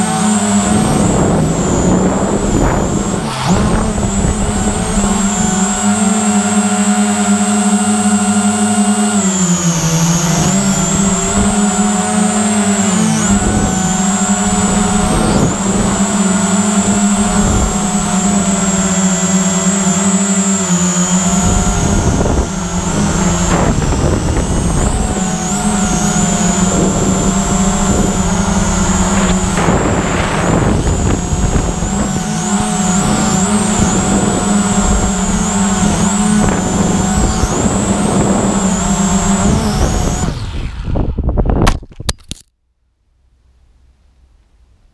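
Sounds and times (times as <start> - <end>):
wind rumble on microphone: 0.0 - 6.8, 10.2 - 20.0, 21.0 - 42.2
drone motors whining: 0.0 - 41.8.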